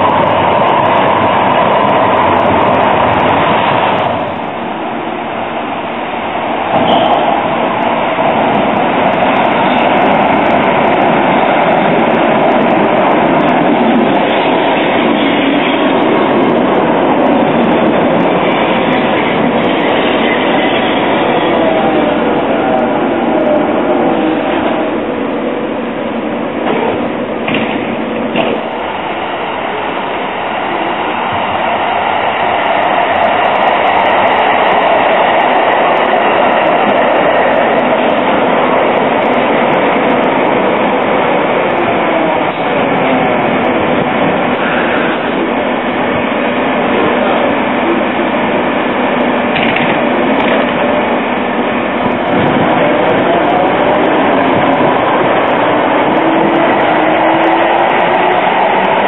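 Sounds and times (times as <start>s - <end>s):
train rolling rumble: 0.0s - 59.0s
train whine gliding in pitch: 0.0s - 59.0s.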